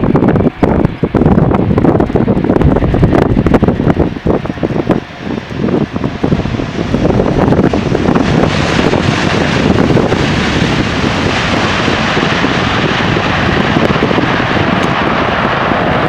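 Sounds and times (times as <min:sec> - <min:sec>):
jet engines rushing: 0:00.0 - 0:16.0
wind buffeting microphone: 0:00.0 - 0:16.0.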